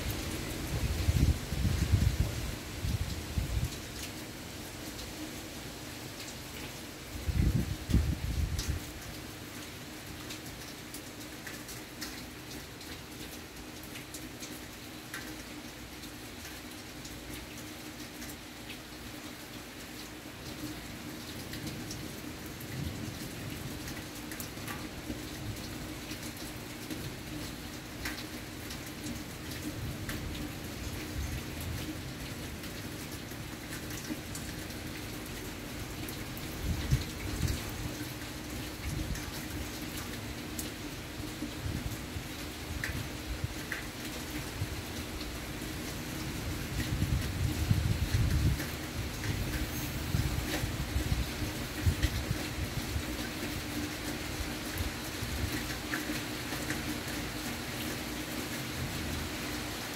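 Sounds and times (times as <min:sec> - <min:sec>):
raindrops ticking on surface: 0:00.0 - 0:59.9
steady rain falling: 0:00.0 - 0:59.9.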